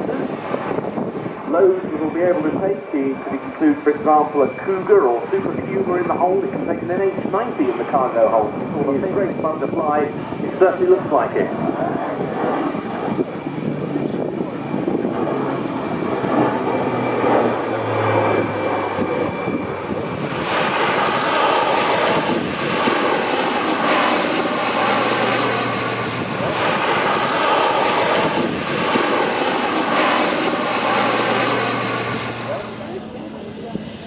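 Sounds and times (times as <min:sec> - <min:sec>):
turboprop engines droning: 0:00.0 - 0:34.0.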